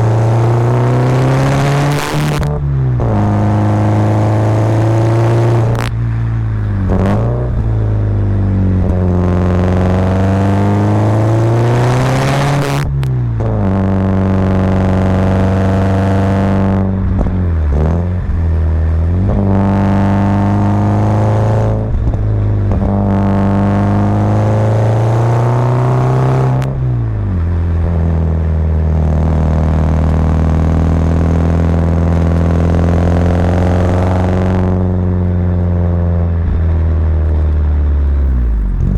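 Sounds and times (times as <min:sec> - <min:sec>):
turbocharged car engine revving: 0:00.0 - 0:38.9.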